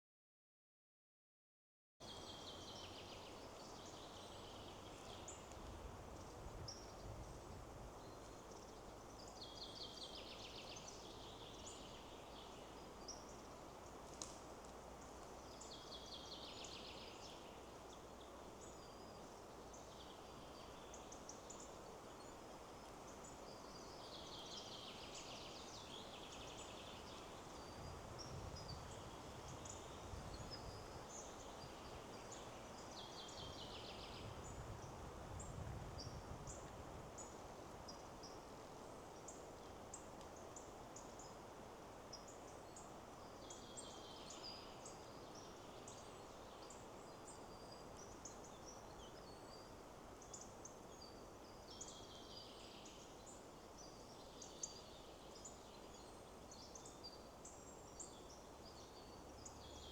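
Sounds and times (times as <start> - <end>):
songbirds singing: 2.0 - 59.9
wind in trees: 2.0 - 59.9.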